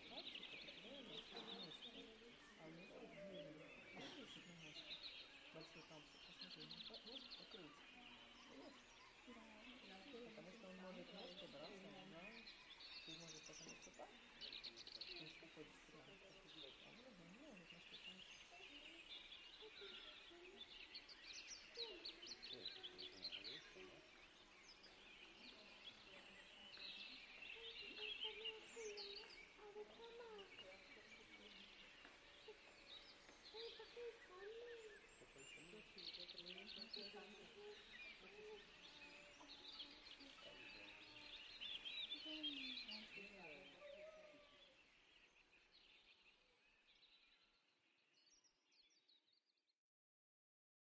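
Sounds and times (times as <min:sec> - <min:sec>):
distant birds chirping: 0:00.0 - 0:47.8.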